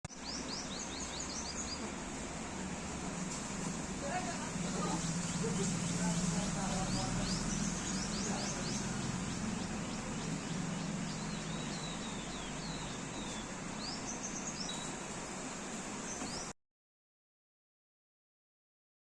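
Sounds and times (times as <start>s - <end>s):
birds chirping: 0.1s - 16.5s
steady high-pitched hiss: 0.1s - 16.5s.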